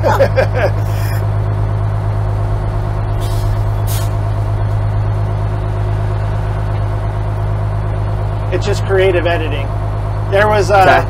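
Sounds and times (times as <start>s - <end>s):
fire engine idling drone: 0.0s - 11.0s.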